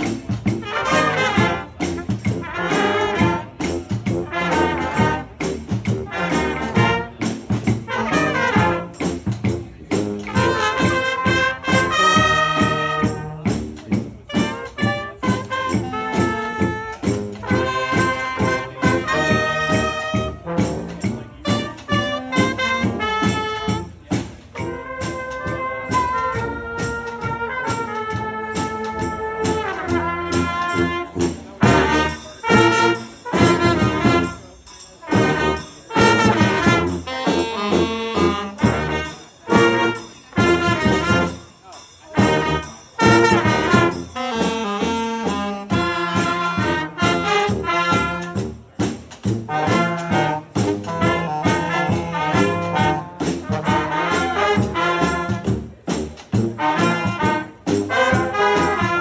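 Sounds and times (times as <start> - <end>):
drum and percussion hits: 0.0 - 41.5, 42.1 - 59.0
brass band playing rock: 0.0 - 59.0.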